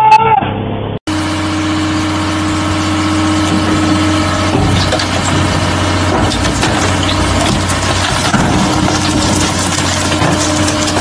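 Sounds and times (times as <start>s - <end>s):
deep rumble: 0.8s - 11.0s
engine idling: 1.1s - 11.0s.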